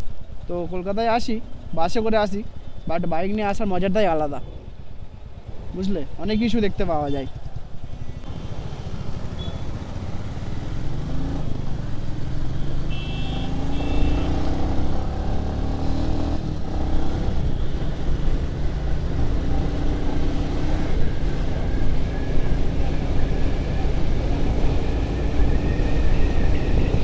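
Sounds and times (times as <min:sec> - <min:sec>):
motorcycle engine rumble: 0:00.0 - 0:27.0.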